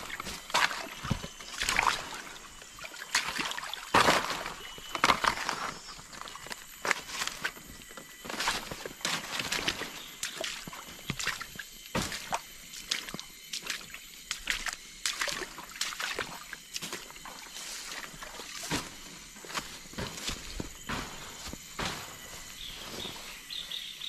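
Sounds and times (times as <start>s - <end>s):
stream trickling over stones: 0.0s - 20.0s.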